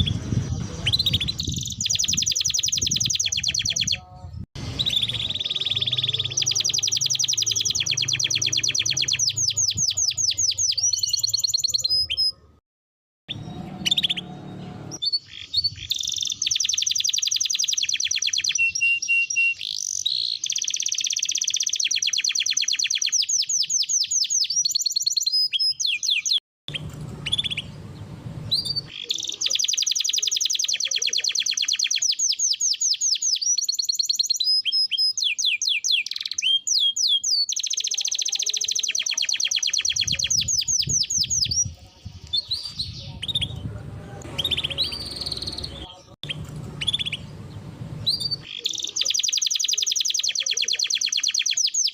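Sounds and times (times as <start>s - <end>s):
canary singing trills: 0.0s - 12.6s, 13.3s - 51.9s.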